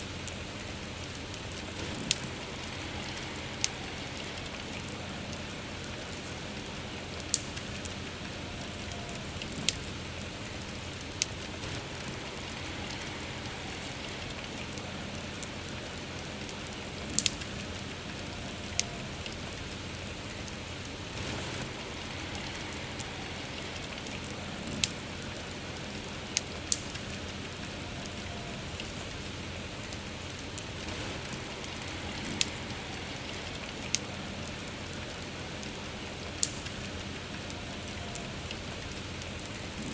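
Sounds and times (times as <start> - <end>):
campfire crackling and popping: 0.0 - 39.9
steady rain hiss: 0.0 - 39.9.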